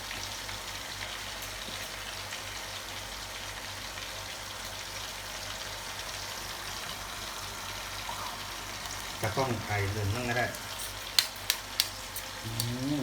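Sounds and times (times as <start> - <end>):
frying sizzle: 0.0 - 13.0.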